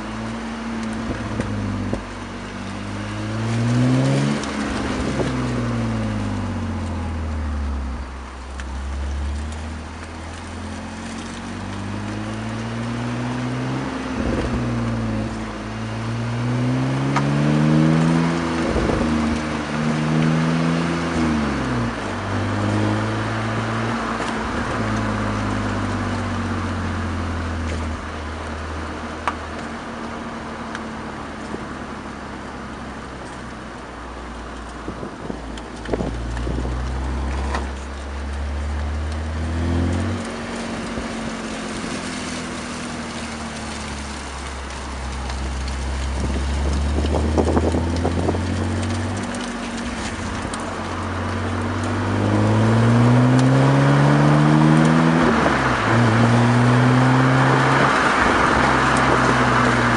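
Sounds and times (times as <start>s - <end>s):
car exhaust under acceleration: 0.0s - 59.9s.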